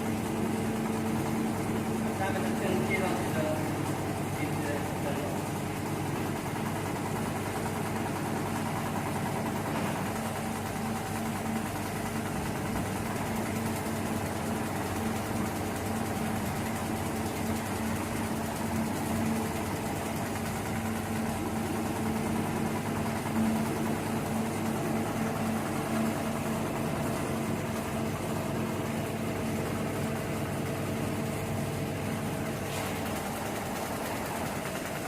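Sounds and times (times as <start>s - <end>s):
sewing machine running: 0.0s - 35.0s.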